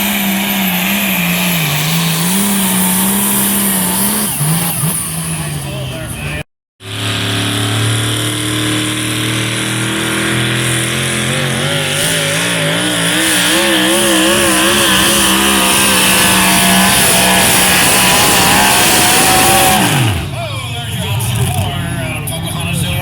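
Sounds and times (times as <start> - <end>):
truck engine at full throttle: 0.0 - 23.0.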